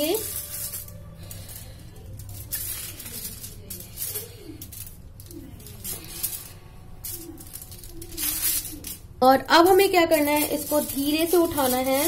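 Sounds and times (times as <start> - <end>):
foil crinkling and rustling: 0.0 - 12.0.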